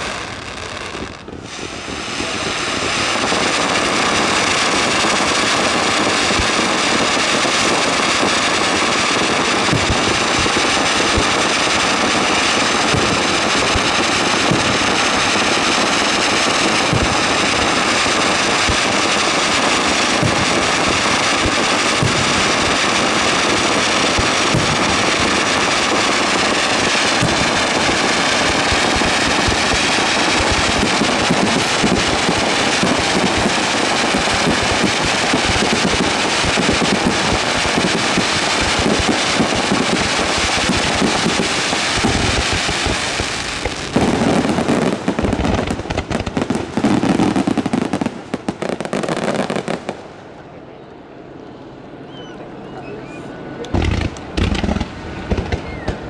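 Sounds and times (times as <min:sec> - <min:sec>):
fireworks booming: 0:00.0 - 0:50.3, 0:53.0 - 0:56.0
fireworks crackling: 0:00.0 - 0:50.4, 0:53.0 - 0:56.0.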